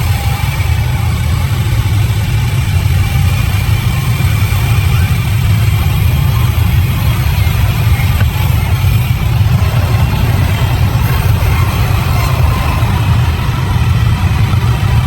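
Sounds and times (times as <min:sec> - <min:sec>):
deep engine drone: 0:00.0 - 0:15.0.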